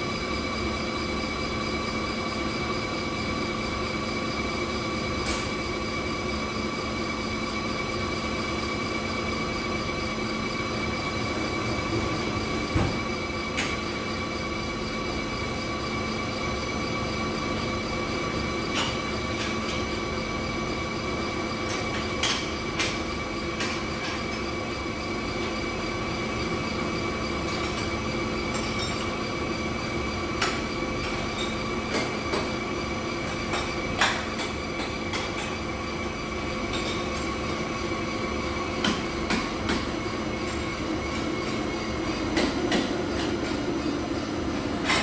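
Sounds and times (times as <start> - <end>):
machine hum and whine: 0.0 - 45.0.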